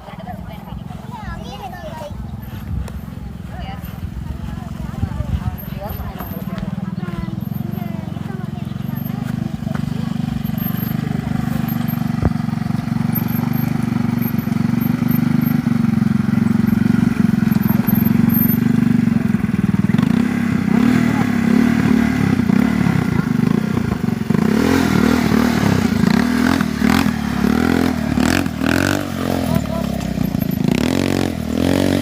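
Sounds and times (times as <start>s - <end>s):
atv engine revving: 0.0s - 32.0s.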